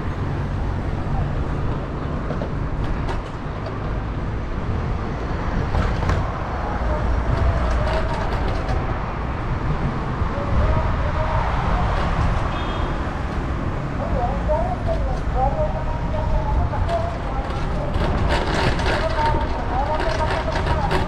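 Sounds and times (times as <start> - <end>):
city traffic noise: 0.0 - 21.0
wind rumble on microphone: 0.0 - 21.0.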